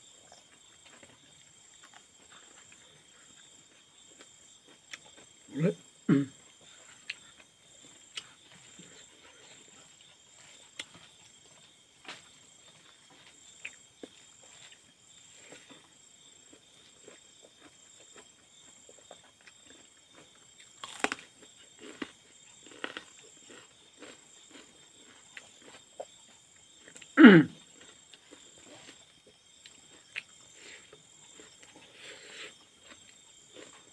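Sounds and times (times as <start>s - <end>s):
soft chewing: 0.1s - 33.9s.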